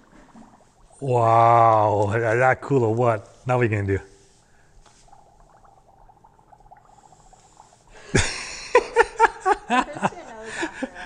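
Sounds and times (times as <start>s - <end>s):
dry ice bubbling in water: 0.0s - 9.6s.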